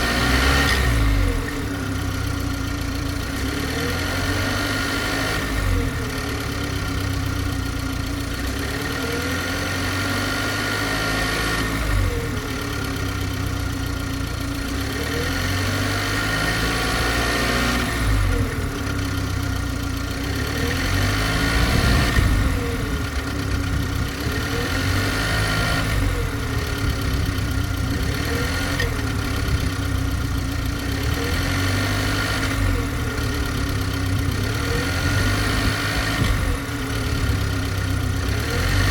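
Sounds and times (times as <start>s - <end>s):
car engine hum: 0.0s - 38.9s.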